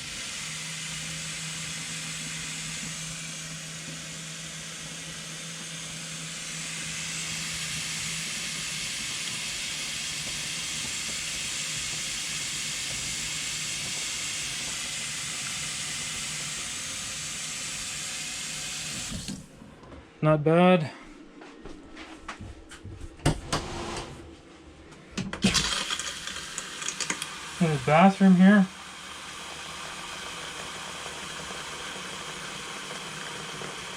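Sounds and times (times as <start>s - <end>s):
water running from faucet: 0.0s - 19.5s, 25.4s - 33.9s.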